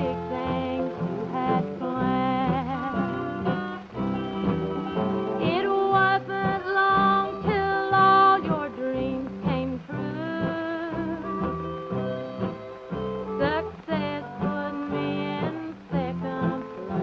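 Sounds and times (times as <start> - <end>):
country band music: 0.0 - 17.0
guitar: 0.0 - 17.0
steady bass rhythm: 0.0 - 17.0.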